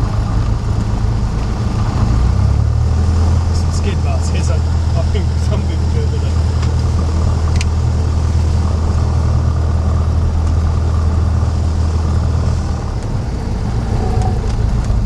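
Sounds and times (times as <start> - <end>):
light aircraft engine and propeller: 0.0 - 15.0.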